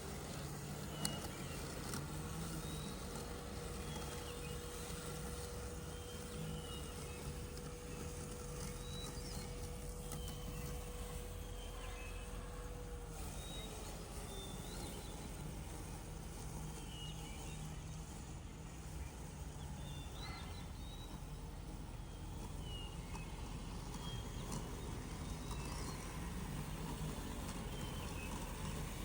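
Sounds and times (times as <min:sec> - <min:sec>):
birds chirping: 0:00.0 - 0:29.0
robotic lawn mower humming: 0:00.0 - 0:29.0
thin whine: 0:00.0 - 0:29.0.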